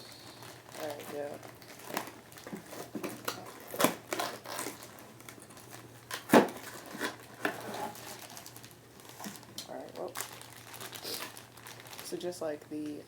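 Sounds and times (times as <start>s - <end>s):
plastic packaging crinkling: 0.2s - 13.0s.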